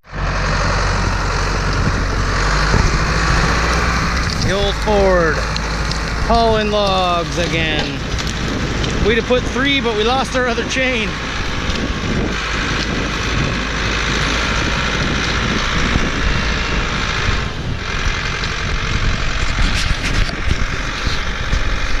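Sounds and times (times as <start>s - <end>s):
broad rushing noise: 0.0s - 22.0s
tractor diesel engine under load: 0.0s - 22.0s.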